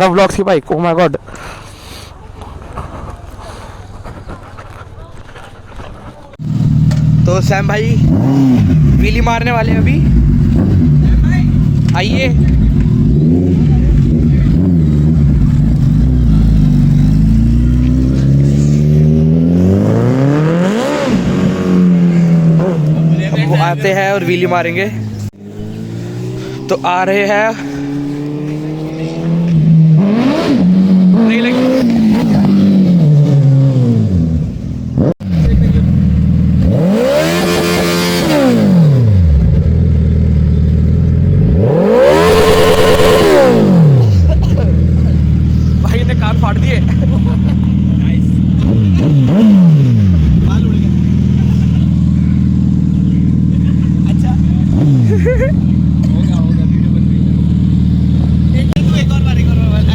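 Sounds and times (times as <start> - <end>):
motorcycle engine revving: 6.2 - 59.9.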